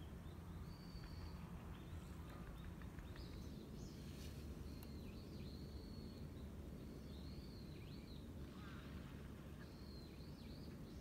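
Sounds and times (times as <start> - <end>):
small birds calling: 0.0 - 11.0.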